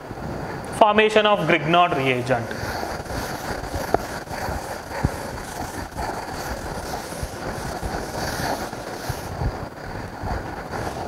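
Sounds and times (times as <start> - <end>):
duster scrubbing chalkboard: 1.4 - 11.0.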